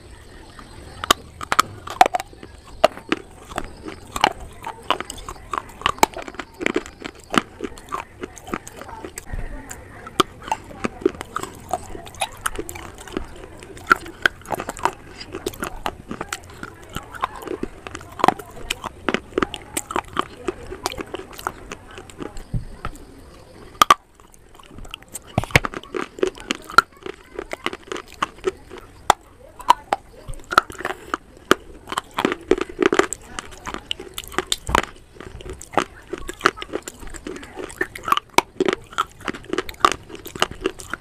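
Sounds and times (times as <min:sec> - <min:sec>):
chewing crunchy clay: 0:00.0 - 0:41.0
wet mouth sounds: 0:00.0 - 0:41.0.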